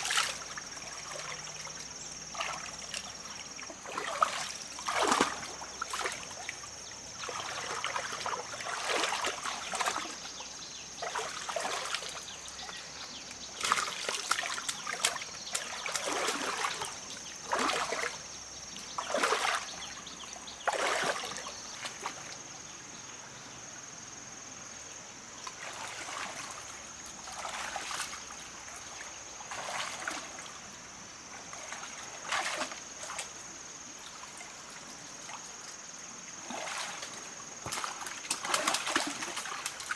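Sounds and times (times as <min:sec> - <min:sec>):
water splashing and sloshing: 0:00.0 - 0:22.5, 0:25.4 - 0:39.9.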